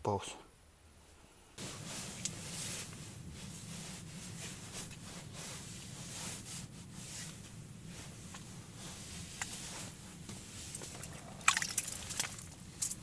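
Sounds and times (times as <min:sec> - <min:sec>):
steady low hum: 0:00.0 - 0:13.0
clothing and tent fabric rustling: 0:01.6 - 0:13.0.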